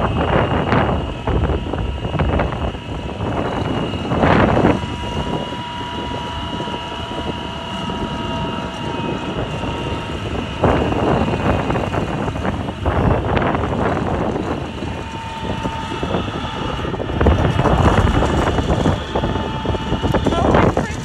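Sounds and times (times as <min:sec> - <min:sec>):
faint whine: 0:00.0 - 0:21.0
low rumble: 0:00.0 - 0:21.0
wind buffeting microphone: 0:00.0 - 0:21.0.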